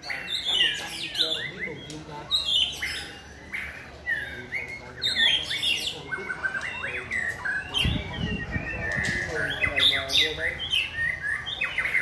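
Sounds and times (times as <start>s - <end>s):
birds singing whistled notes: 0.0s - 12.0s.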